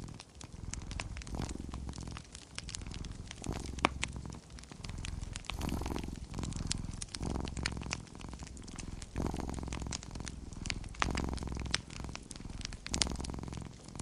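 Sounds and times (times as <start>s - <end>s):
cat purring: 0.0s - 14.0s
wood fire crackling: 0.0s - 14.0s.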